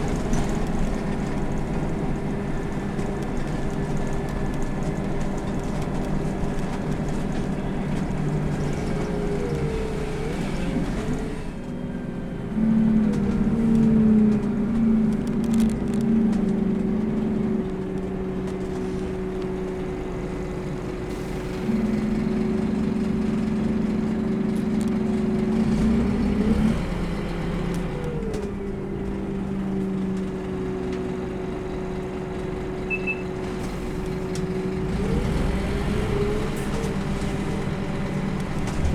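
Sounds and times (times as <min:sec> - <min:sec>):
bus diesel engine whine: 0:00.0 - 0:38.9.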